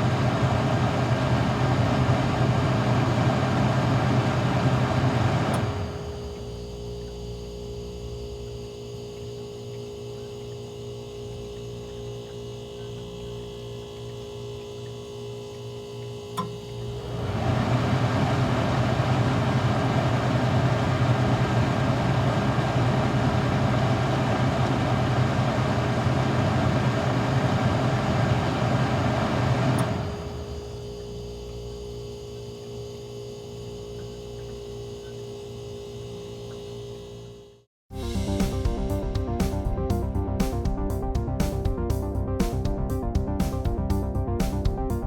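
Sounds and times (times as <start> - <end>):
ice machine humming: 0.0 - 40.1.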